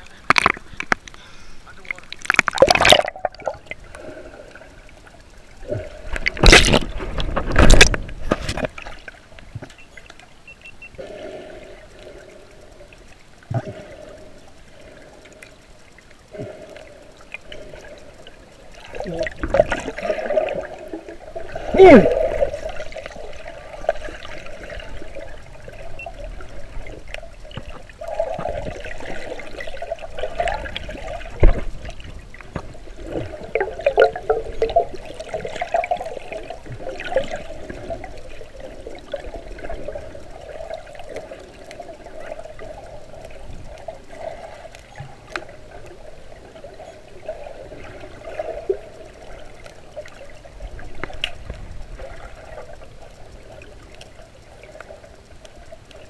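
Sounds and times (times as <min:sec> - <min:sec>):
underwater bubbling and gurgling: 0:00.0 - 0:56.0.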